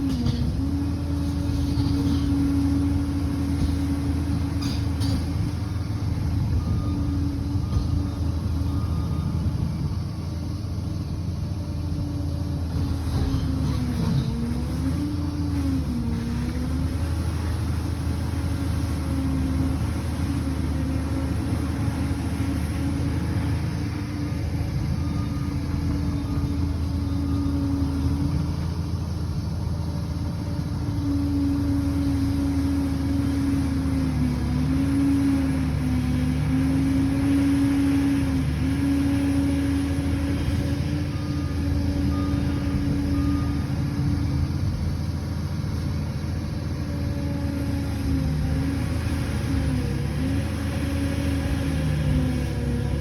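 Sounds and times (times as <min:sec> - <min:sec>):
bulldozer diesel engine rumbling: 0:00.0 - 0:53.0.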